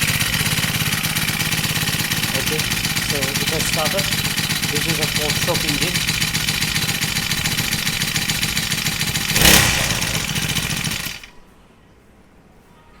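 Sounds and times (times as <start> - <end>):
brush cutter engine running: 0.0 - 11.3.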